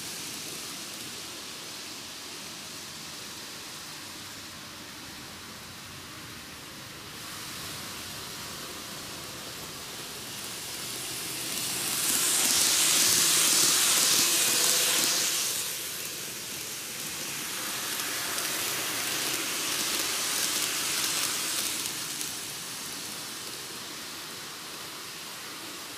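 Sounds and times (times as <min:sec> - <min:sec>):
model trains rolling on track: 0:00.0 - 0:25.9.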